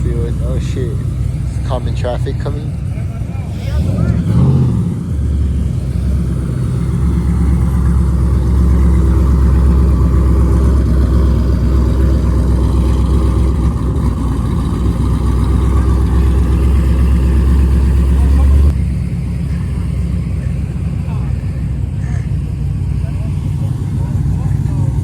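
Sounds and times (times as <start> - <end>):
car engine droning: 0.0 - 25.0.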